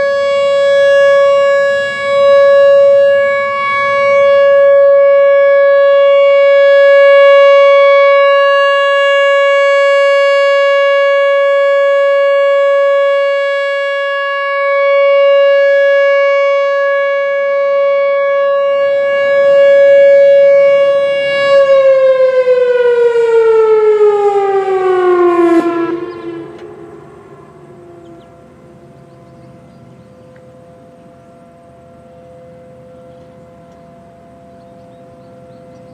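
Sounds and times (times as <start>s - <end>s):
rotating warning siren: 0.0s - 35.9s.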